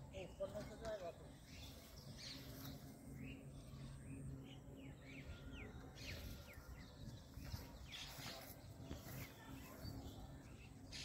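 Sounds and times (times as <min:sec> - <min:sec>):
steady low hum: 0:01.1 - 0:11.0.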